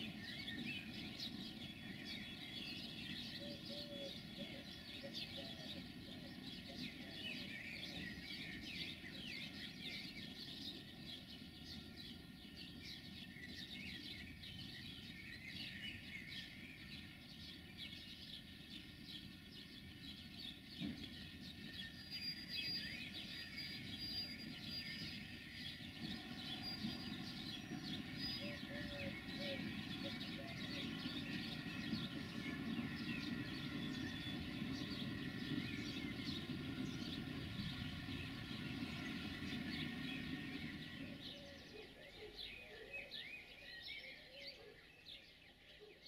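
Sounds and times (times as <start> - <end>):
distant freight train rumble: 0.0 - 43.5
small birds chirping: 0.0 - 46.0.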